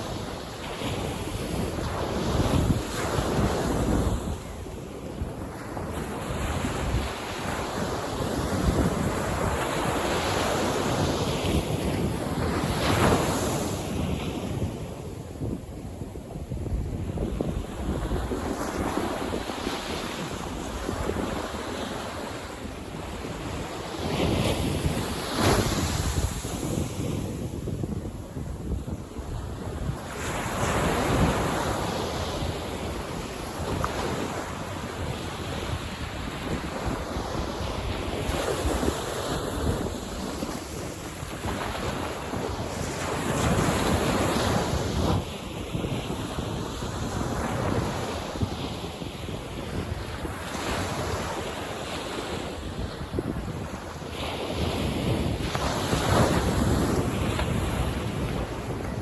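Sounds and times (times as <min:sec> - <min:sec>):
sea waves breaking on beach: 0:00.0 - 0:59.0
wind buffeting microphone: 0:00.0 - 0:59.0.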